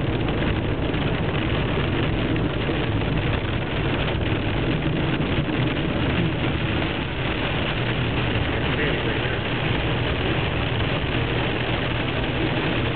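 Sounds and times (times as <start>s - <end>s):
tyres running over hail: 0.0s - 12.9s
vehicle rumble: 0.0s - 12.9s.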